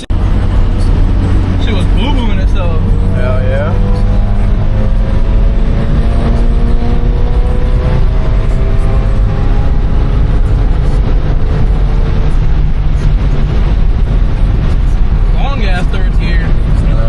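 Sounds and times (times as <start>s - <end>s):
engine and road drone: 0.0s - 17.0s.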